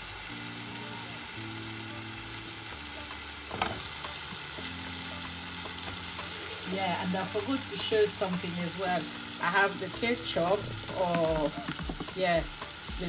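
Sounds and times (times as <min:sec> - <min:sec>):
sauce sizzling in a pot: 0:00.0 - 0:13.0.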